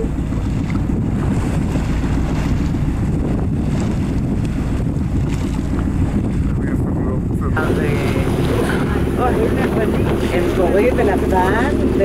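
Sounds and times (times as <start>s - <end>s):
choppy sea rushing: 0.0s - 12.0s
wind buffeting microphone: 0.0s - 12.0s.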